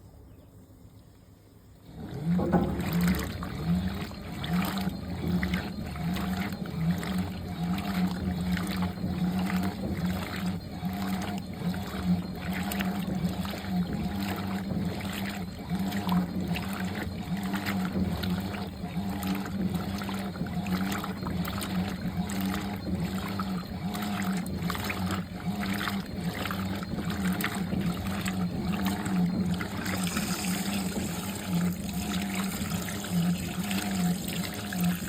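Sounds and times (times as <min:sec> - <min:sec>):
washing machine motor hum: 0:01.8 - 0:35.0
water sloshing in tub: 0:01.8 - 0:35.0.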